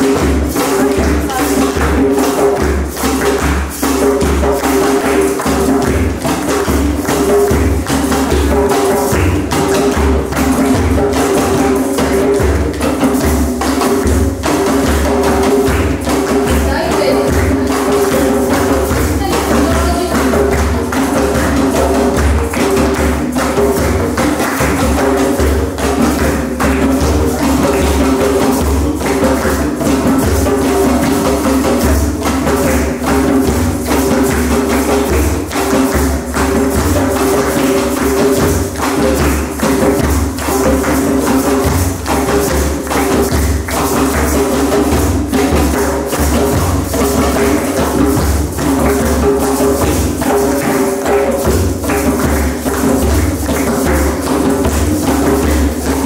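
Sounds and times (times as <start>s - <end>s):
rapid struck percussion: 0.0s - 56.0s.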